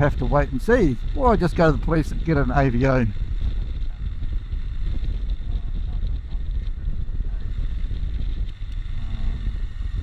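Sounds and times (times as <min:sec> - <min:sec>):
motorcycle engine: 0:00.0 - 0:10.0
wind rumbling on microphone: 0:00.0 - 0:10.0.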